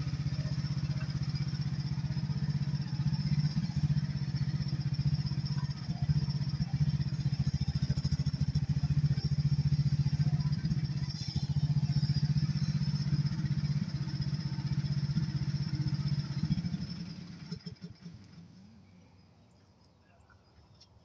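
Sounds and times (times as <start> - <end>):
small engine chugging at idle: 0.0 - 19.1.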